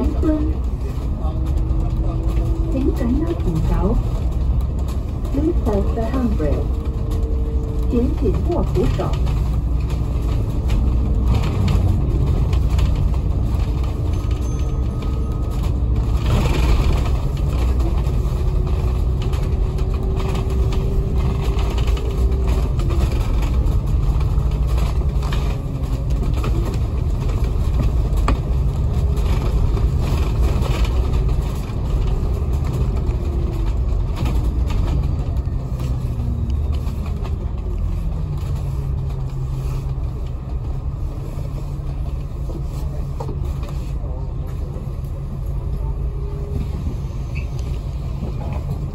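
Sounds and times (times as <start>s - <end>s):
bus engine rumble and whine: 0.0s - 48.9s.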